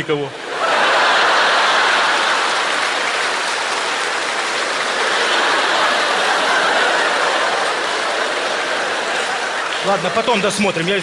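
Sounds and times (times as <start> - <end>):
audience applauding: 0.5 - 11.0.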